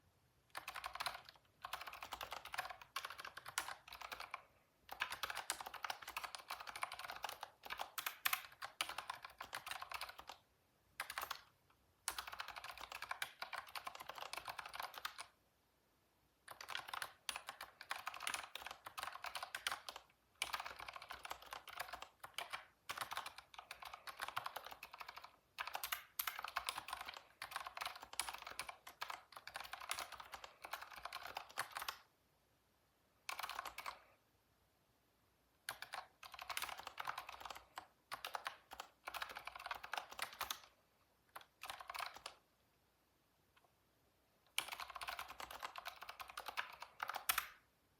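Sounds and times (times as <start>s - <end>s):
typing on computer keyboard: 0.5s - 10.4s, 11.0s - 15.4s, 16.4s - 32.1s, 33.2s - 34.2s, 35.6s - 42.4s, 44.5s - 47.7s.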